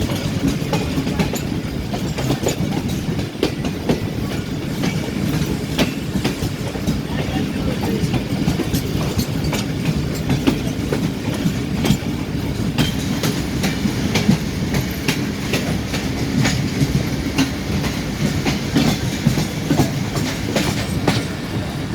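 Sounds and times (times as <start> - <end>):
train rumbling past: 0.0 - 21.9
wheels clickety-clack on rail joints: 0.0 - 21.9.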